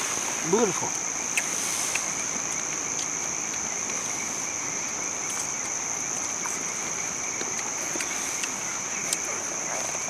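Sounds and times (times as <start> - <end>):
low insect drone: 0.0 - 10.0
night insects trilling: 0.0 - 10.0
steady hiss: 0.0 - 10.0.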